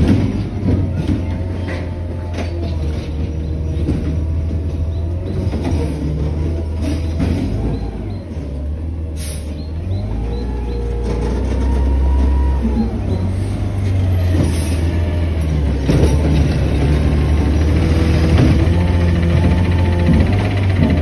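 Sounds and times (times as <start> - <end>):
garbage truck engine rumble: 0.0 - 21.0.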